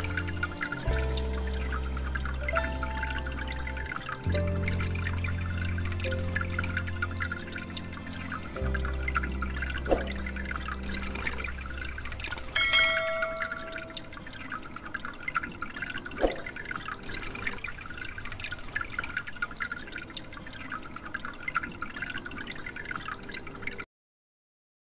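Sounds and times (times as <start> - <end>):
water dripping and trickling: 0.0 - 23.9.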